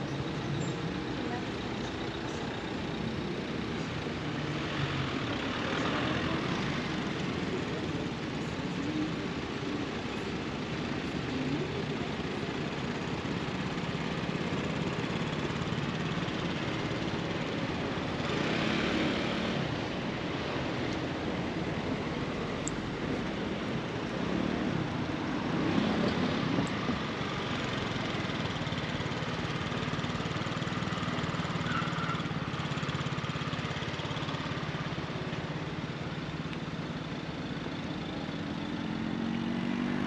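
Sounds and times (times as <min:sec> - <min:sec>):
hum of traffic: 0:00.0 - 0:40.0
vehicles passing: 0:00.0 - 0:40.0.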